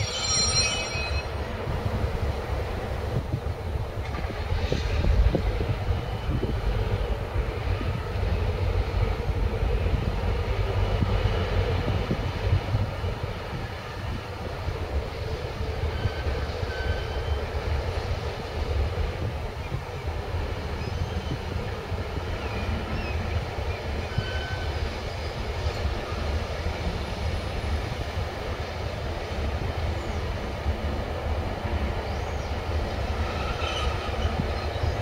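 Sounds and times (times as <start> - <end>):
diesel locomotive engines rumbling: 0.0 - 35.0.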